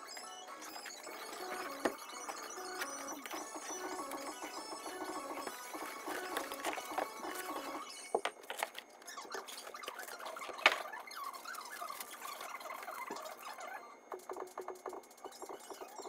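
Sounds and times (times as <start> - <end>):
high chirpy squeaks: 0.0 - 16.0.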